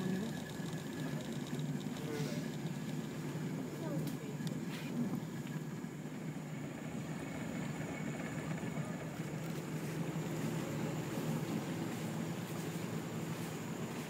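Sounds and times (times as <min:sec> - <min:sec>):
outboard motor humming: 0:00.0 - 0:14.0.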